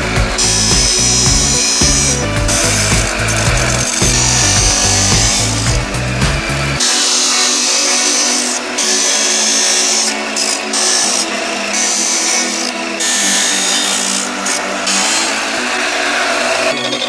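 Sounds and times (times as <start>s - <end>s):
chop saw grinding steel: 0.0s - 17.0s.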